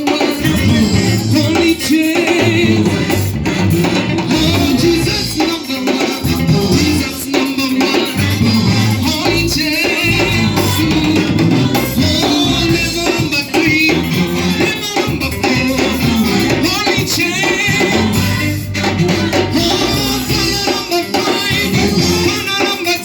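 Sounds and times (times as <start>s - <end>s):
band playing a steady beat: 0.0s - 23.0s
people singing: 0.0s - 23.0s.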